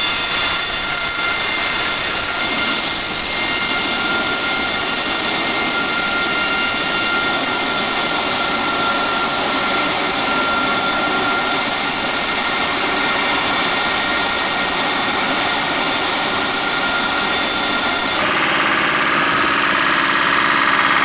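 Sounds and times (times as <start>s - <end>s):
jet engine roar with whine: 0.0s - 21.0s.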